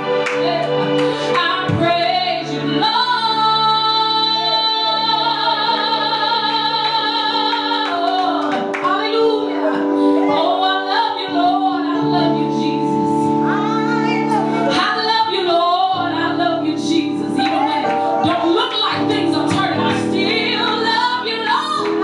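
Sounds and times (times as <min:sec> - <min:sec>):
sustained keyboard chords: 0:00.0 - 0:22.0
woman singing: 0:00.0 - 0:22.0.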